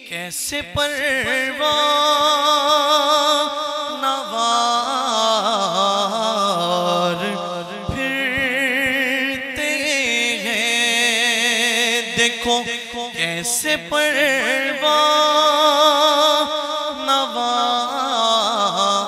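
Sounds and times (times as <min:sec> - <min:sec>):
man singing devotional poem: 0:00.0 - 0:19.0.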